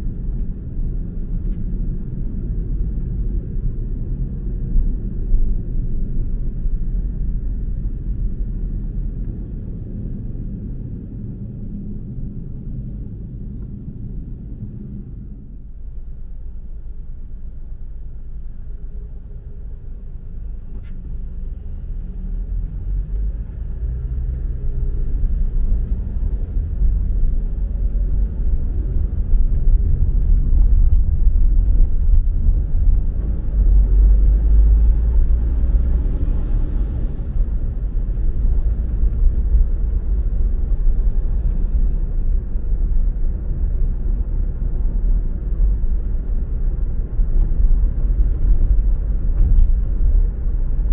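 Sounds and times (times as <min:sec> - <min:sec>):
car driving on road rumble: 0:00.0 - 0:50.9.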